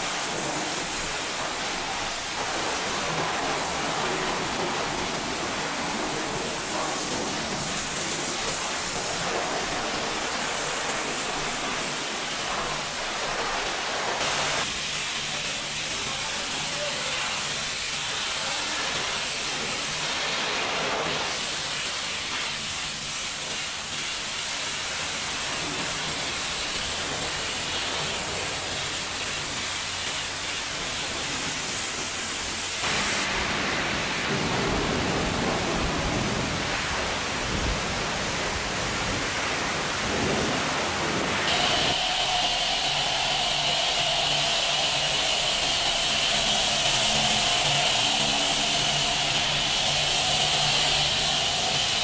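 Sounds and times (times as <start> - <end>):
pressure washer spraying water: 0.0 - 37.1, 38.3 - 52.0.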